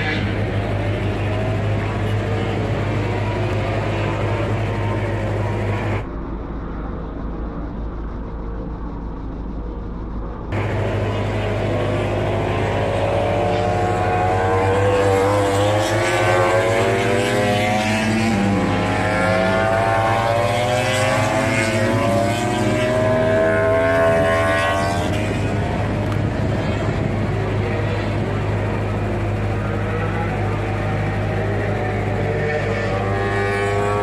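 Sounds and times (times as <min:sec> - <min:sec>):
racing motorcycles accelerating: 0:00.0 - 0:06.1, 0:10.5 - 0:34.0
steady low hum: 0:00.0 - 0:34.0.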